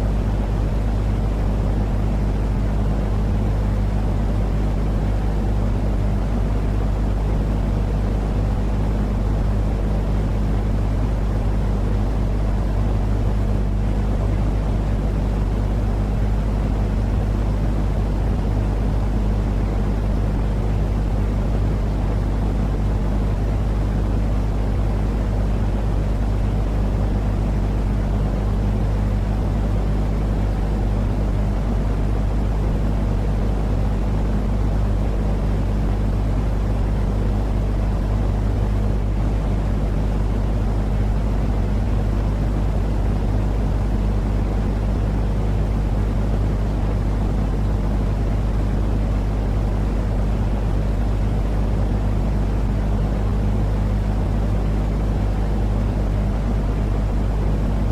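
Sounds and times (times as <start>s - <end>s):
low droning white noise: 0.0s - 57.9s.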